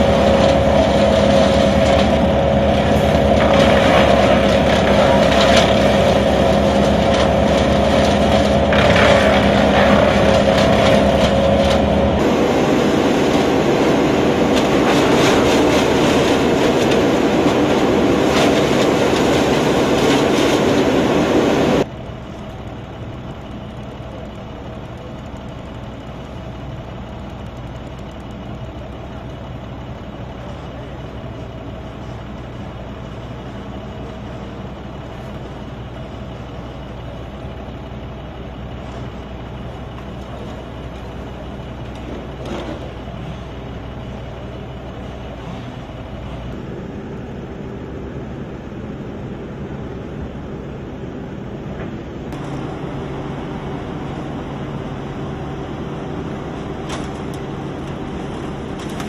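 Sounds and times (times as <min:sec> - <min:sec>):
vehicle running noise: 0:00.0 - 0:59.0.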